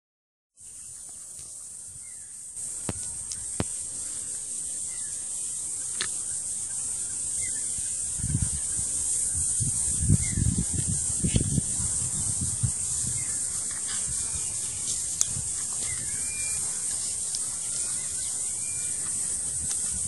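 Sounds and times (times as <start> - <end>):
high-pitched insect chorus: 0.6 - 20.0.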